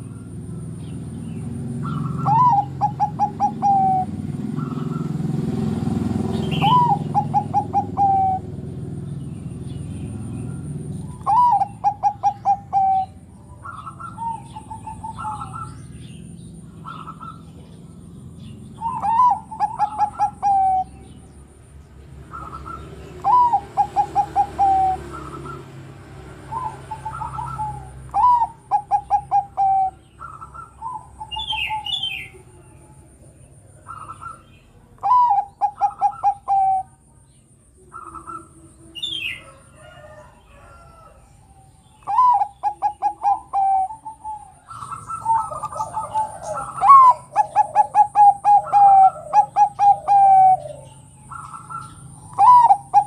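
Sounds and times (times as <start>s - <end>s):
dove cooing: 0.0s - 0.8s, 1.4s - 9.2s, 10.2s - 21.4s, 22.2s - 37.1s, 37.7s - 53.0s.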